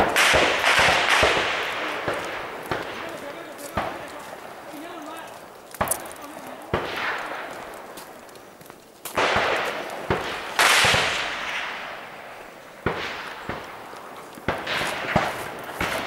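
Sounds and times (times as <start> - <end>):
gunshots with echo: 0.0 - 8.0, 9.2 - 16.0.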